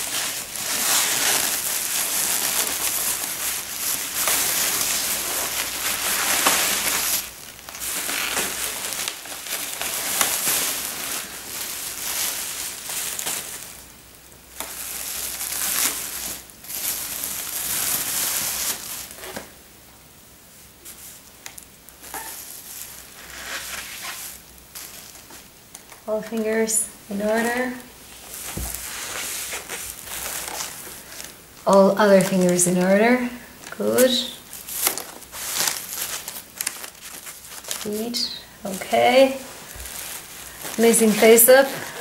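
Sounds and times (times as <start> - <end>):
bubble wrap crinkling: 0.0 - 19.6, 20.5 - 42.0.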